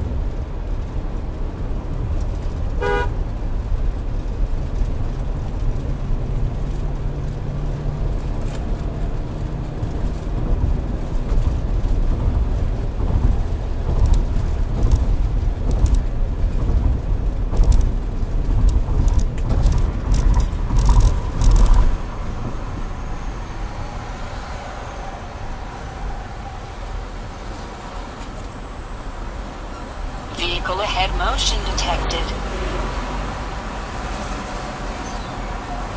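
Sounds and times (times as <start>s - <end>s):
car road and engine noise: 0.0s - 35.9s.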